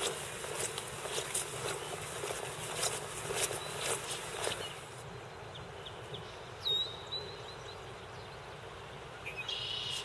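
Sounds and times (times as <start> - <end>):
songbird calling: 1.4 - 10.0.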